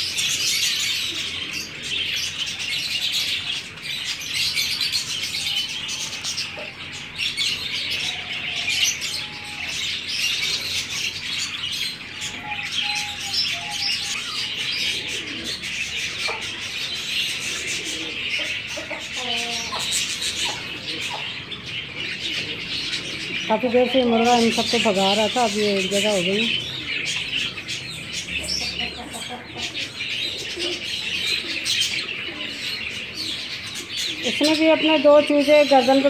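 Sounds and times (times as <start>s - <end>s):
budgerigars chirping and chattering: 0.0s - 36.0s.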